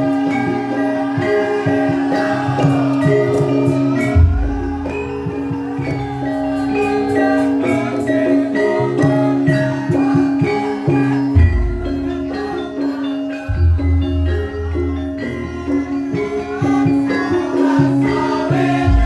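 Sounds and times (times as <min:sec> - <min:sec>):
gamelan metal-keyed notes: 0:00.0 - 0:19.0.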